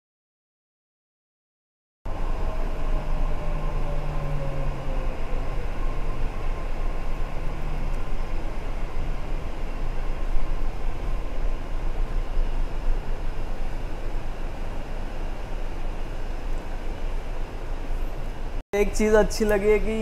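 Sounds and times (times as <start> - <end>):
train rumble inside carriage: 2.1 - 20.0.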